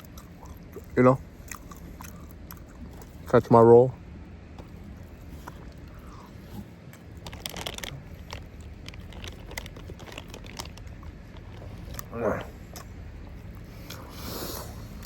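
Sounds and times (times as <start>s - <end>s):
biting and chewing: 0.0s - 3.4s, 4.4s - 15.0s.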